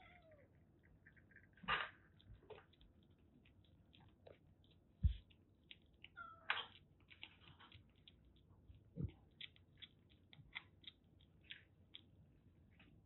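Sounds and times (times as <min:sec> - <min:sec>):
kitten chewing and smacking: 0:00.0 - 0:13.0.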